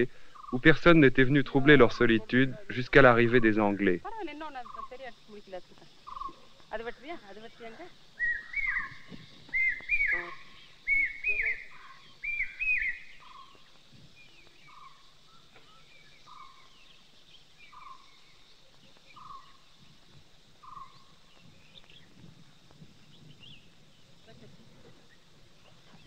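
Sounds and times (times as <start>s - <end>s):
high whistled calls: 0.3s - 20.0s, 20.6s - 22.2s.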